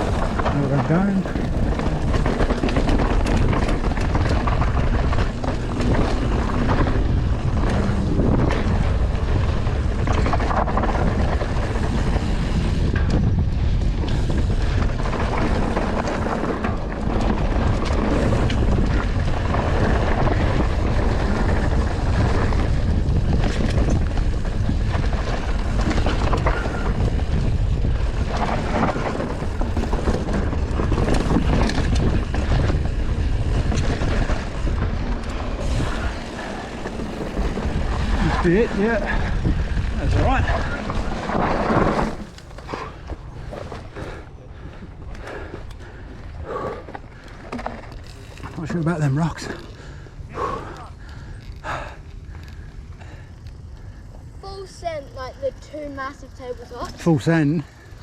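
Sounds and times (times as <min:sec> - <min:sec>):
bike tyres rolling over dirt: 0:00.0 - 0:58.0
wind buffeting the microphone: 0:00.0 - 0:58.0.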